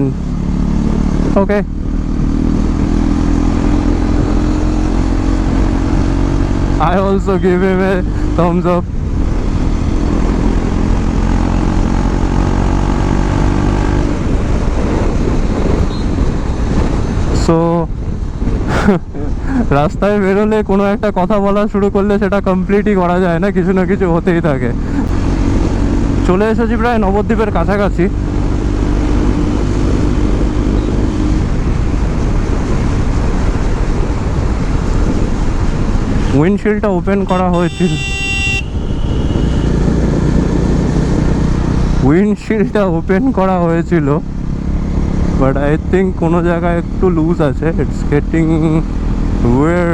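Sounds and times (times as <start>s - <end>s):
motorcycle engine cruising: 0.0s - 19.8s, 21.4s - 49.9s
wind rush: 0.0s - 23.8s, 24.7s - 49.9s.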